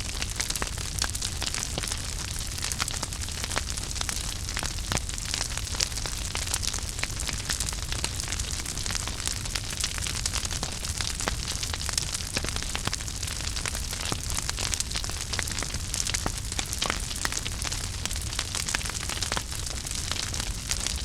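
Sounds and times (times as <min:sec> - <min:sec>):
fire crackles and pops: 0:00.0 - 0:21.0
fire rumble and hiss: 0:00.0 - 0:21.0.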